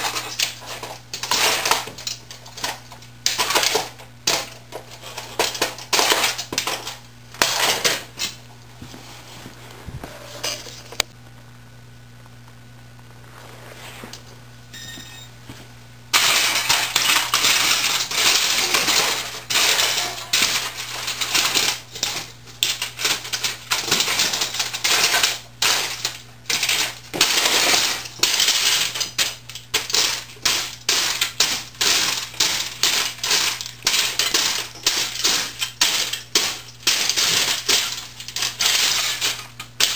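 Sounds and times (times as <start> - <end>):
plastic and metal crunching: 0.0 - 8.4, 16.1 - 39.9.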